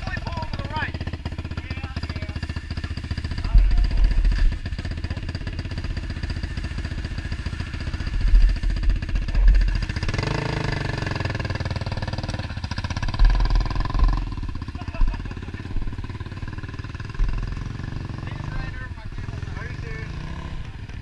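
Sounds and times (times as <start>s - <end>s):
quad engines idling: 0.0s - 21.0s.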